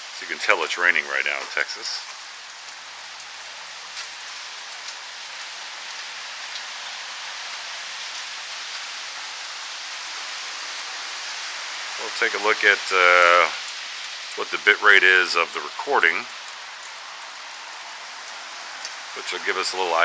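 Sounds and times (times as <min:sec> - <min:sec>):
faint raindrop ticks: 0:00.0 - 0:20.0
steady rain falling: 0:00.0 - 0:20.0.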